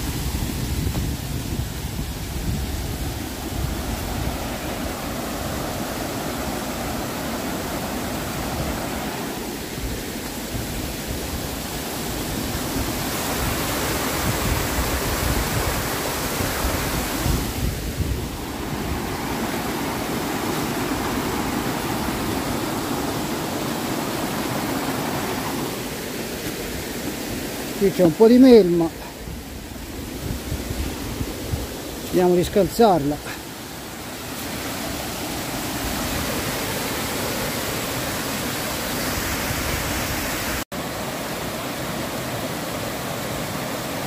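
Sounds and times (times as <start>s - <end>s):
stream rushing: 0.0s - 44.0s.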